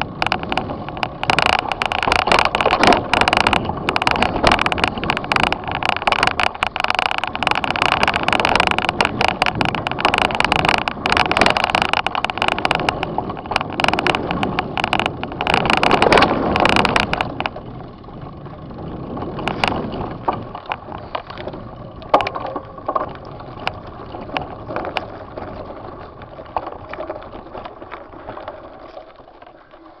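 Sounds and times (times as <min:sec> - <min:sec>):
wind rushing over microphone: 0:00.0 - 0:28.5
bike rattling on dirt trail: 0:00.0 - 0:30.0.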